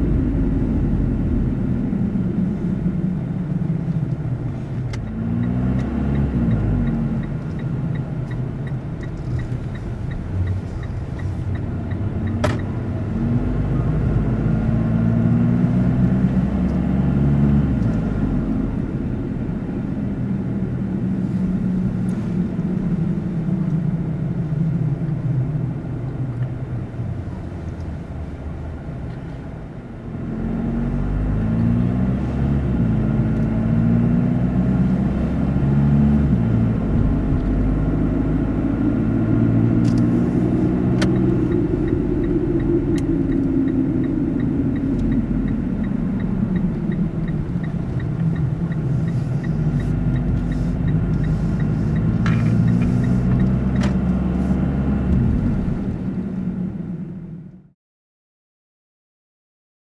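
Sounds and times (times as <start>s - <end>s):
car engine: 0.0s - 57.7s
road noise: 0.0s - 57.7s.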